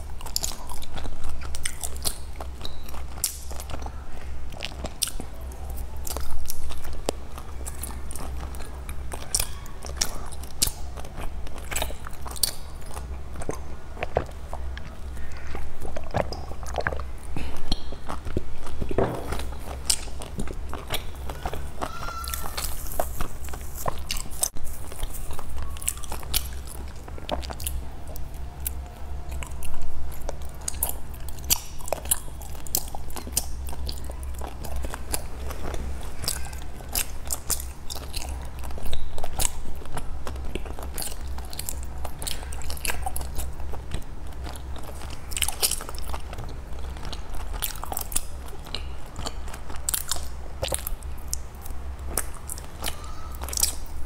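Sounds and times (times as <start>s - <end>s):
chewing and mouth clicks: 0.0s - 54.0s.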